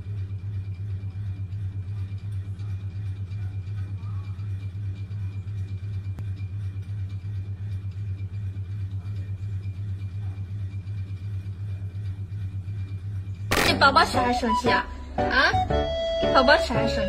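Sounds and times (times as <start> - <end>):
pulsing low mechanical hum: 0.0 - 17.0.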